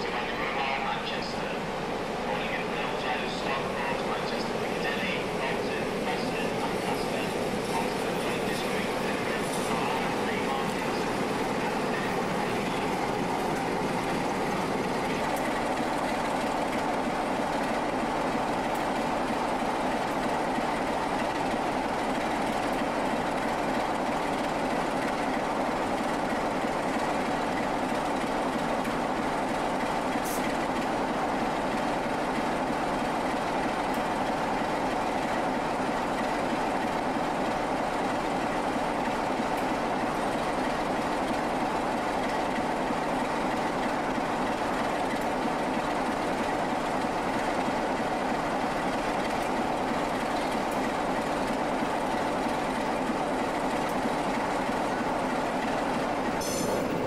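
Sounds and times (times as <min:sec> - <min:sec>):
diesel locomotive engine idling: 0:00.0 - 0:57.0.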